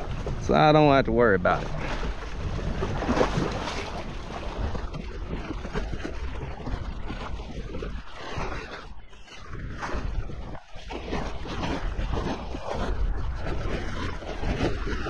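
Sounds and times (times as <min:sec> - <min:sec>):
water slapping against boat hull: 0:00.0 - 0:15.0
wind buffeting microphone: 0:00.0 - 0:15.0.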